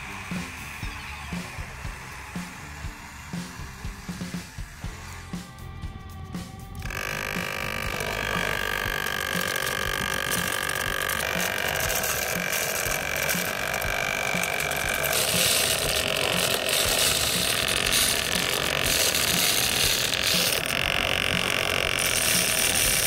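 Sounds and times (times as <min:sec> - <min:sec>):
small electric gear motor running: 0:00.0 - 0:23.0.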